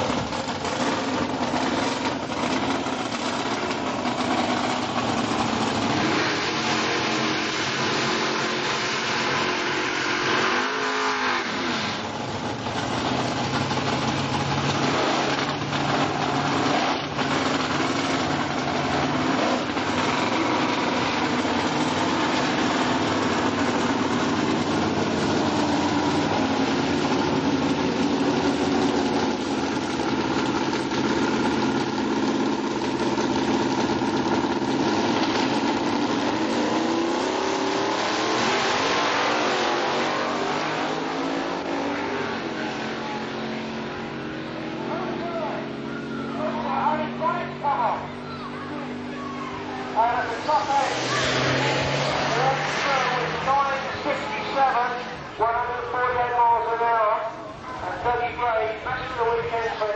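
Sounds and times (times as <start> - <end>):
racing car engine revving: 0.0 - 56.9.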